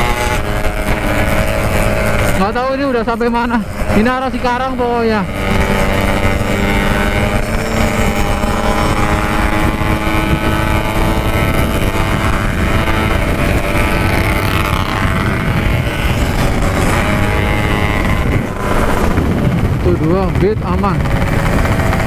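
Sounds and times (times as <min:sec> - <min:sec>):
two-stroke motorcycle engine: 0:00.0 - 0:22.0
wind noise on microphone: 0:00.0 - 0:22.0.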